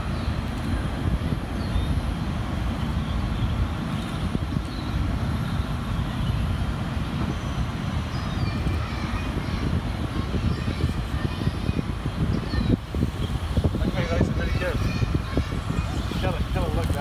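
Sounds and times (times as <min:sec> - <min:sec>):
low rumbling outdoor noise: 0:00.0 - 0:17.0.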